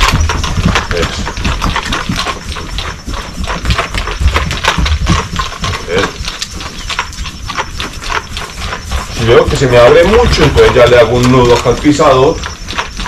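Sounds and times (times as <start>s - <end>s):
hoofbeats on soft ground: 0.0s - 13.0s.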